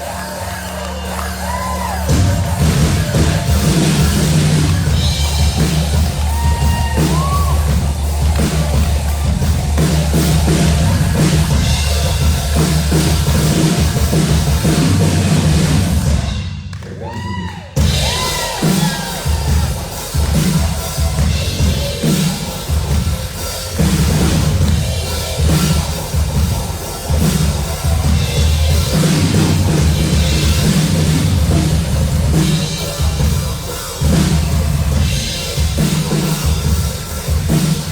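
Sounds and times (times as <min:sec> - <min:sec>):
rock band playing: 0:00.0 - 0:16.4, 0:17.8 - 0:37.9.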